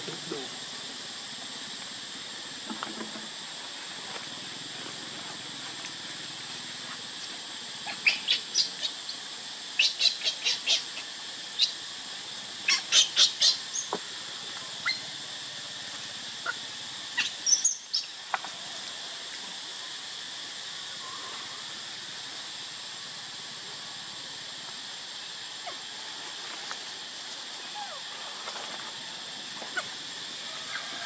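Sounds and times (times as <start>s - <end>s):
steady high hiss: 0.0s - 31.0s.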